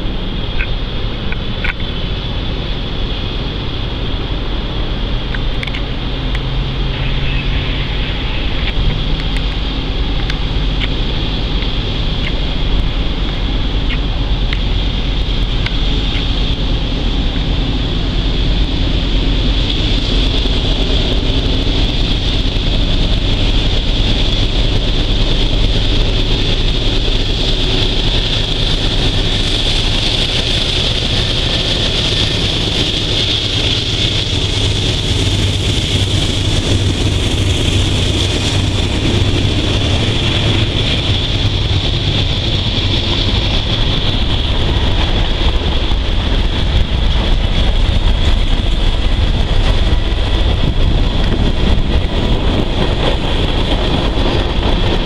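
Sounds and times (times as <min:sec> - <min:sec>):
diesel locomotive engine running: 0:00.0 - 0:55.0
freight cars rolling on track: 0:00.0 - 0:55.0.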